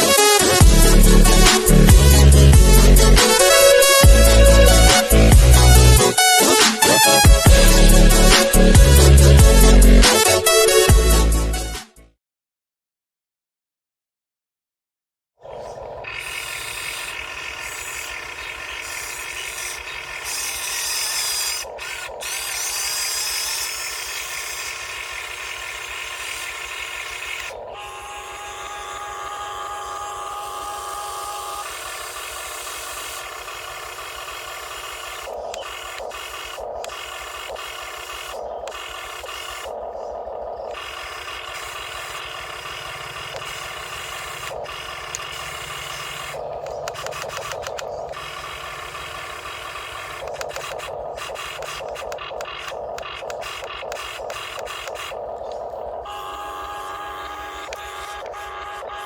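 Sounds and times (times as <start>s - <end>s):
electric motors and servos whirring: 0.0s - 11.8s, 15.4s - 59.0s.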